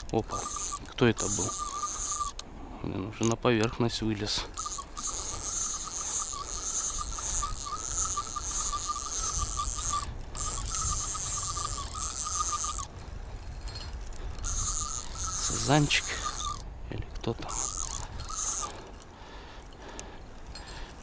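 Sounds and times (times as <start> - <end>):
fishing reel whirring and clicking: 0.0 - 21.0.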